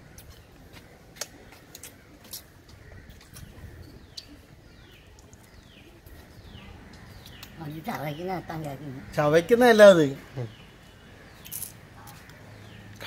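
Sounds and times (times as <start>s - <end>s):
bird chirping: 0.1s - 13.0s.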